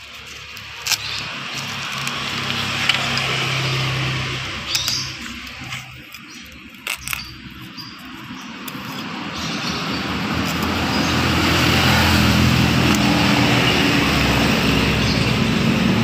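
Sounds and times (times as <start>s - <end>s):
motor vehicle engine running: 0.0s - 16.0s.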